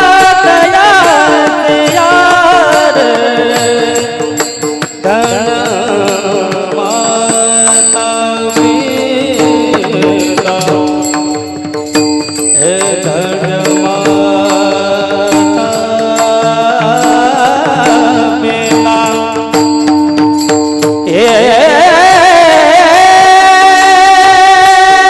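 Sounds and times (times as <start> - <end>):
hand drum strokes: 0.0 - 21.5
sustained accompanying tones: 0.0 - 21.9
person singing devotional melody: 0.0 - 25.0.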